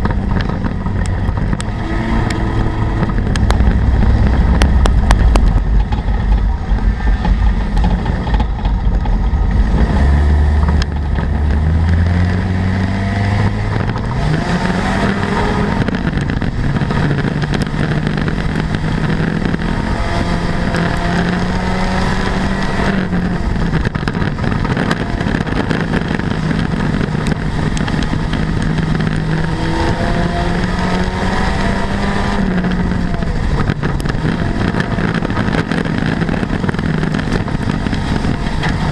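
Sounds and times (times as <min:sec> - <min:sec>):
chassis rattle: 0:00.0 - 0:38.9
race car engine revving: 0:00.0 - 0:38.9.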